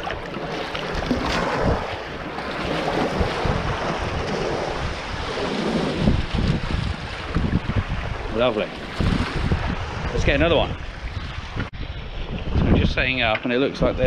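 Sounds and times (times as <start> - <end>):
small waves splashing on shore: 0.0 - 11.6
wind buffeting microphone: 0.0 - 14.0.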